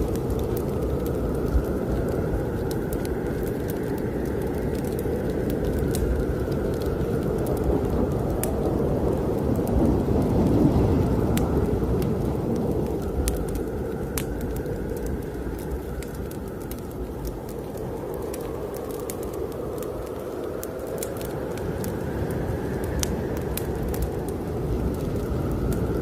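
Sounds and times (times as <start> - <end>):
snowstorm wind blowing: 0.0 - 26.0
wood fire crackling: 0.0 - 26.0.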